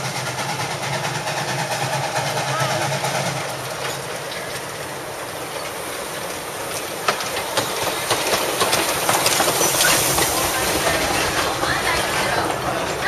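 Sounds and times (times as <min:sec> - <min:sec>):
small train rumbling past: 0:00.0 - 0:13.0
wheel clicks over rail joints: 0:00.2 - 0:13.0.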